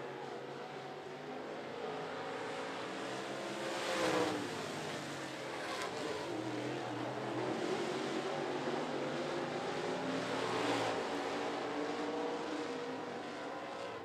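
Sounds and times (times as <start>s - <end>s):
race car engines passing: 0.1s - 14.0s.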